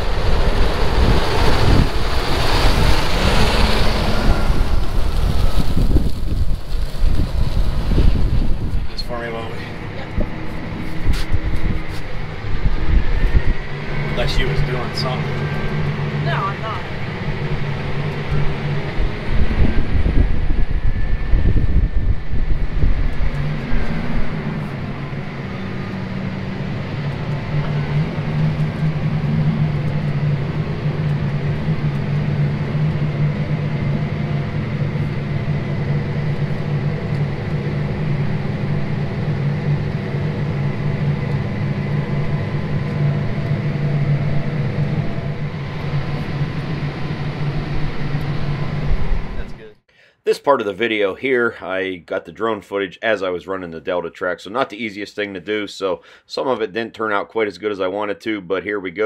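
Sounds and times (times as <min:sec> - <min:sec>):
tractor engine running under load: 0:00.0 - 0:49.5.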